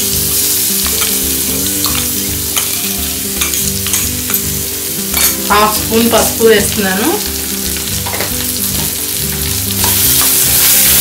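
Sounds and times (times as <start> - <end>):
chilli paste and onions sizzling in oil: 0.0 - 11.0.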